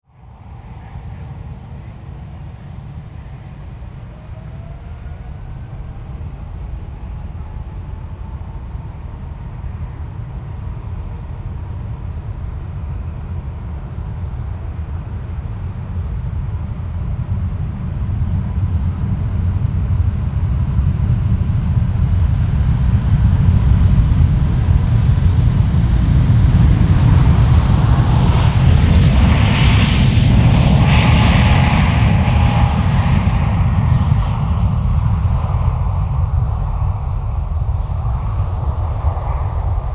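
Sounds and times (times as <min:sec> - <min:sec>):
faint engine whine: 0:00.1 - 0:39.9
jet engines rumbling: 0:00.2 - 0:39.9.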